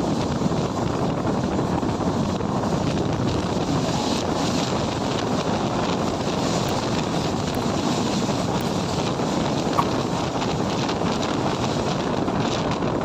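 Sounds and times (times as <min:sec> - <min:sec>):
train running rumble: 0:00.0 - 0:13.0
wind rushing over microphone: 0:00.0 - 0:13.0.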